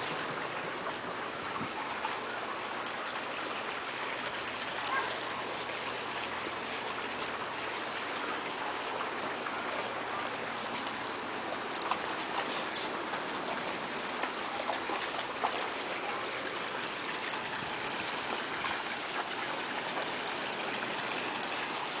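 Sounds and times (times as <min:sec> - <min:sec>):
pool water running and splashing: 0:00.0 - 0:22.0.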